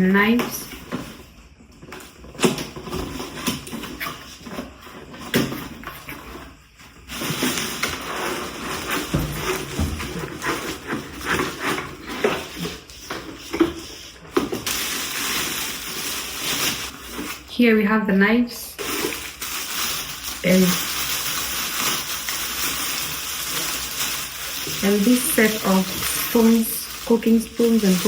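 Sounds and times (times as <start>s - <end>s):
utensils and packaging knocking: 0.2s - 17.5s, 18.8s - 28.0s
packaging rustling: 0.7s - 17.5s, 18.8s - 28.0s.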